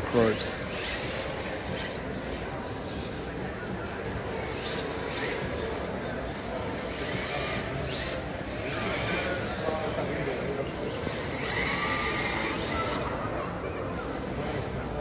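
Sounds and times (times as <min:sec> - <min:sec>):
crowd chatter in a hall: 0:00.0 - 0:15.0.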